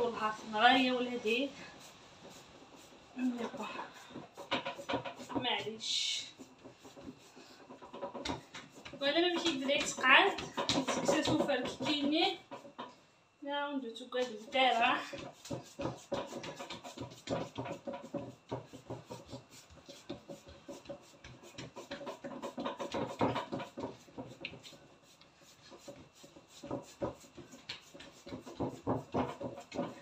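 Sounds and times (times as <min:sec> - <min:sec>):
hands rubbing and scraping dough: 0:00.0 - 0:12.9, 0:14.0 - 0:30.0.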